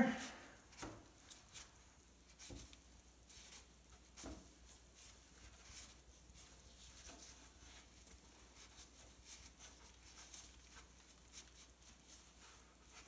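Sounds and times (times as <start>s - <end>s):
cloth rag rubbing: 0.1s - 13.0s.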